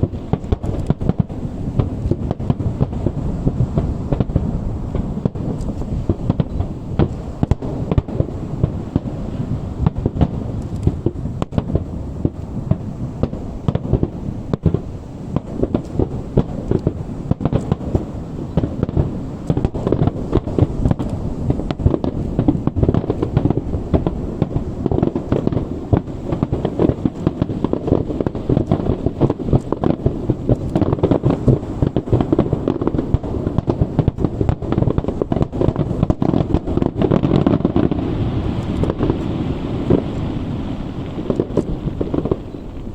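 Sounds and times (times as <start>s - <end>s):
fireworks bursting: 0.0s - 42.9s.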